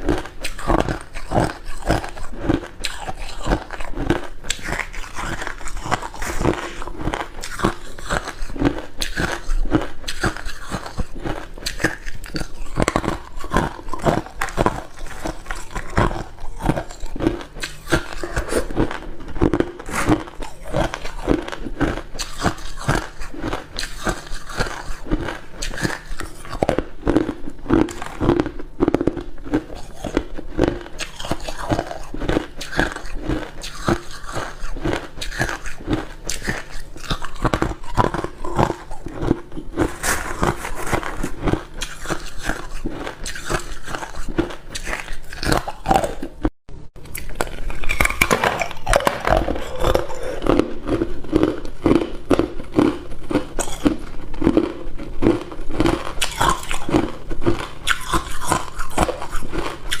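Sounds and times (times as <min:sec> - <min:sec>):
chewing ice cubes: 0:00.0 - 1:00.0.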